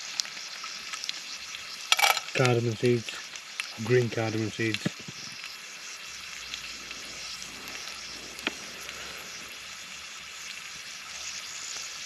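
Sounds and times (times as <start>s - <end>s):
hot oil sizzling in a frying pan: 0.0s - 12.0s.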